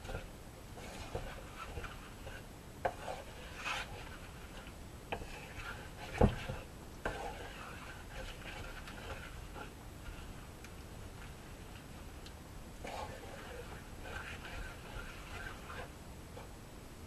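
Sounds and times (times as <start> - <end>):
utensil scraping a wok: 0.0 - 10.5, 12.8 - 16.5.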